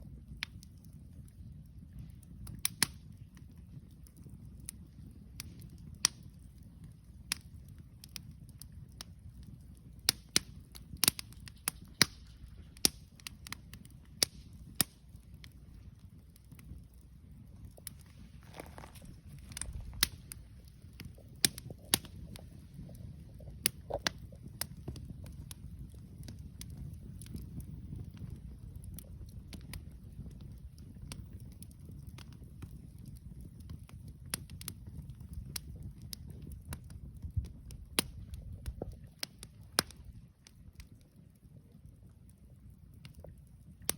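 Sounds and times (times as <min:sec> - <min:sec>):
campfire crackling and popping: 0:00.0 - 0:43.9
low fire rumble: 0:00.0 - 0:43.9.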